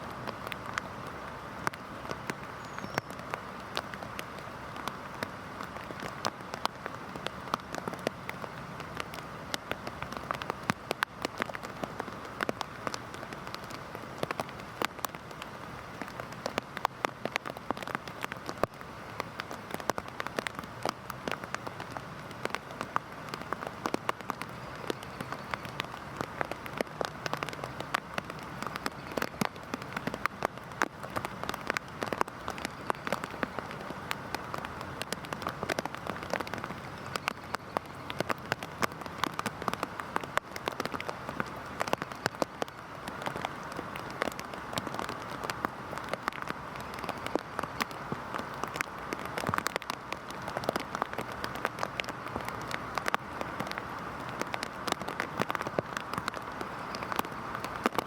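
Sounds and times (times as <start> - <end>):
heavy rain hissing: 0.0 - 58.0
raindrops ticking on hard surface: 0.0 - 58.0.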